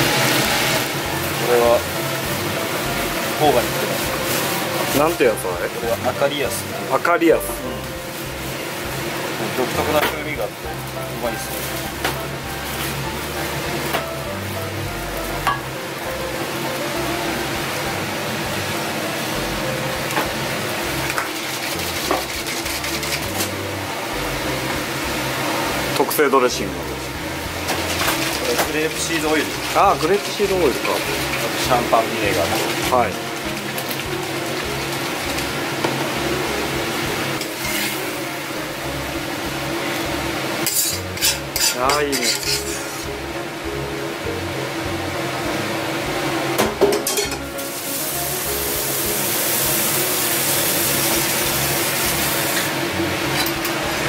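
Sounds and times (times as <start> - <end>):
background music with bass line: 0.0 - 9.2, 9.8 - 26.0, 26.6 - 50.1
kitchen air hiss: 0.0 - 33.4, 34.8 - 43.3, 44.7 - 54.0.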